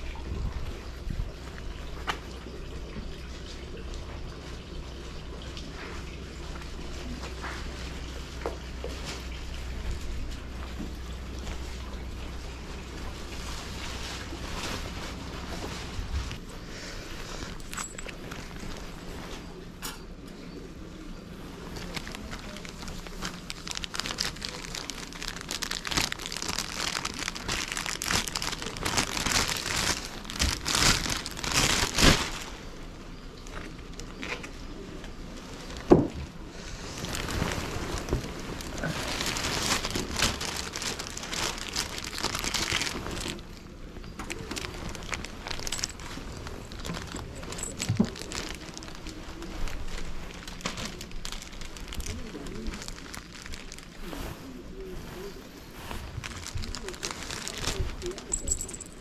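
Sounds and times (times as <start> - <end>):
rustling and crinkling at microphone: 0.0 - 59.0.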